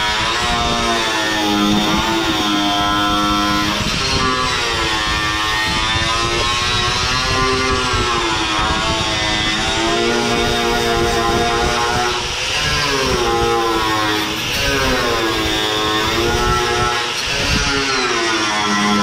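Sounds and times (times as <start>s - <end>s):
angle grinder with wire wheel: 0.0s - 19.0s.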